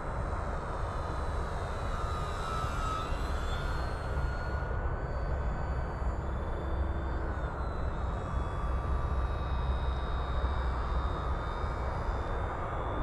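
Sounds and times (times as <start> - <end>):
model plane motor whining: 0.4 - 13.0.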